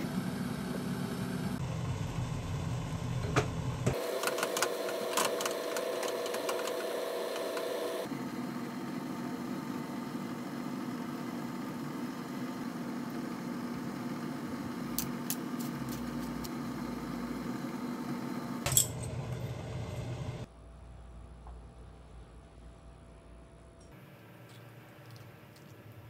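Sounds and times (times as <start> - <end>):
kitchen hum: 0.0 - 26.0.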